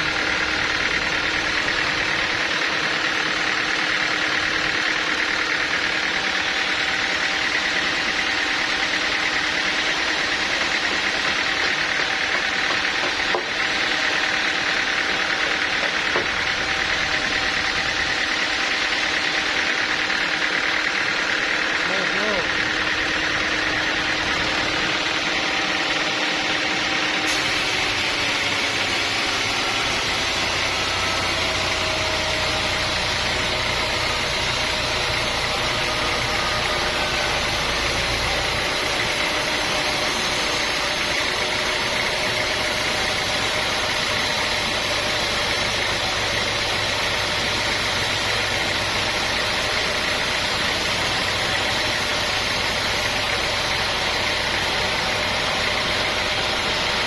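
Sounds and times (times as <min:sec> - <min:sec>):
sawmill machinery hum and whir: 0:00.0 - 0:57.0.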